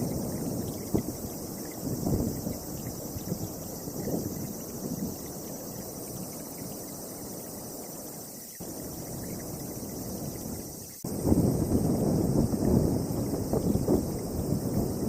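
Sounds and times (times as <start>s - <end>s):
storm wind gusting: 0.0s - 15.0s.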